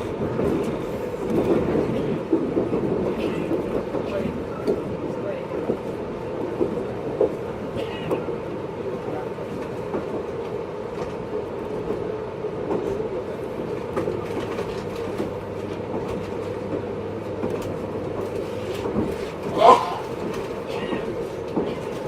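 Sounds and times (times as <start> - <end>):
train running hum: 0.0 - 22.0.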